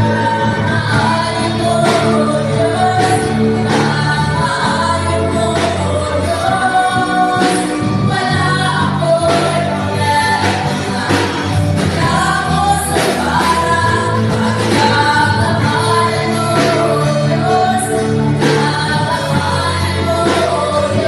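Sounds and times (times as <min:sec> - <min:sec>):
instrumental accompaniment: 0:00.0 - 0:21.0
women's group singing: 0:00.0 - 0:21.0.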